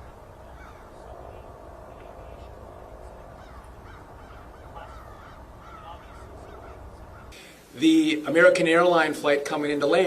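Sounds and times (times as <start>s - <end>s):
birds calling: 0.0s - 9.1s.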